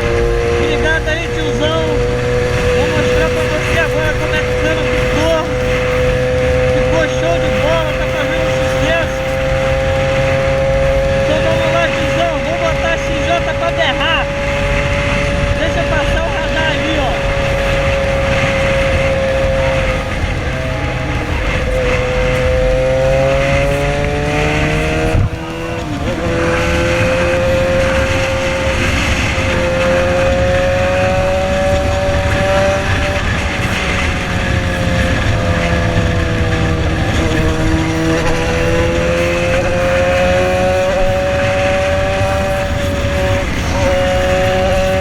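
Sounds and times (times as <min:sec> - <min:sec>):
motorcycle engine at speed: 0:00.0 - 0:45.0.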